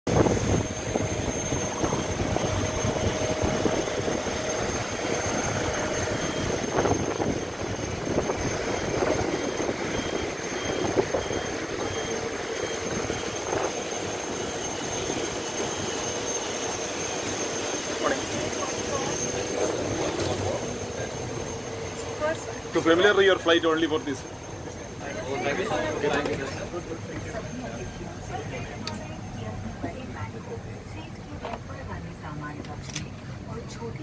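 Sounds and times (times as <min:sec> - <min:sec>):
high whine: 0:00.1 - 0:31.9
parked airliner rushing hum: 0:00.1 - 0:34.0.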